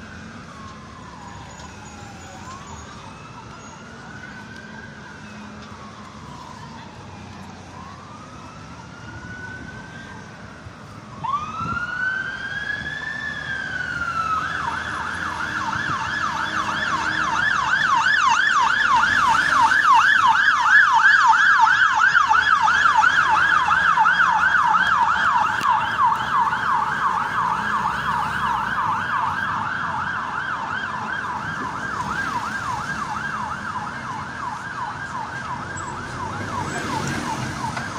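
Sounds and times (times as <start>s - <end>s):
city traffic: 0.0s - 37.9s
fire engine siren wailing and yelping: 0.0s - 37.9s.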